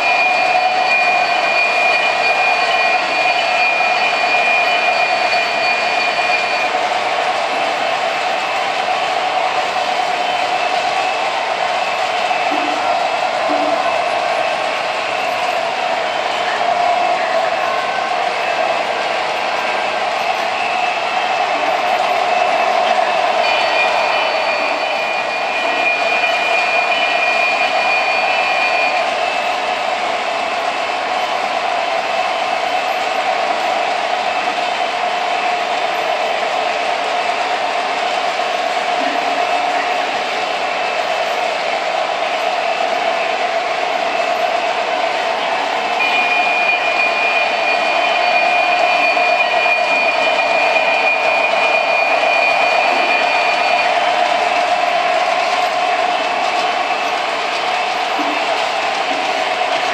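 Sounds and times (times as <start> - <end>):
model trains running on track: 0.0 - 59.9.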